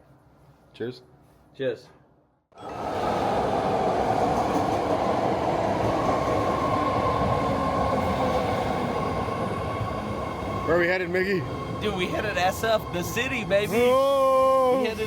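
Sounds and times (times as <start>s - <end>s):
train rumble and hiss: 2.6s - 15.0s.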